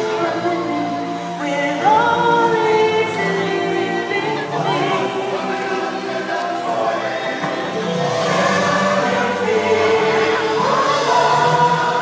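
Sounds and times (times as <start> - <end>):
choir singing long held notes: 0.0 - 12.0.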